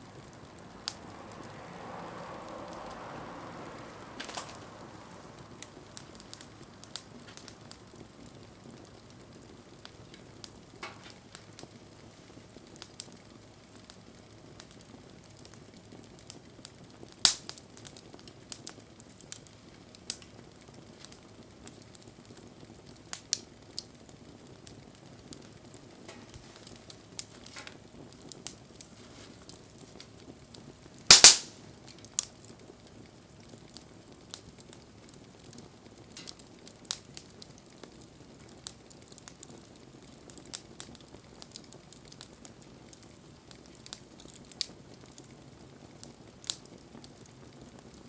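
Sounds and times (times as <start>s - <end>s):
campfire crackles and pops: 0.0s - 48.0s
campfire hiss: 0.0s - 48.0s.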